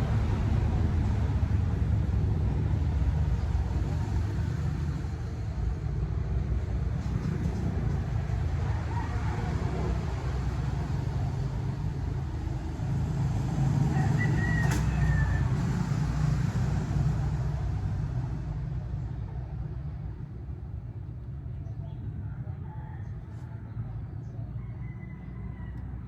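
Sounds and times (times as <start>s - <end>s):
road and wind noise: 0.0s - 26.0s.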